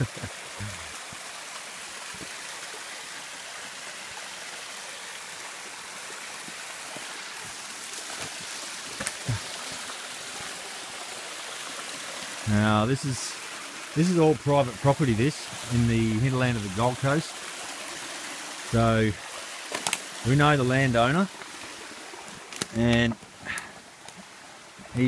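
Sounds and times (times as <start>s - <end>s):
creek splashing over stones: 0.0s - 25.0s.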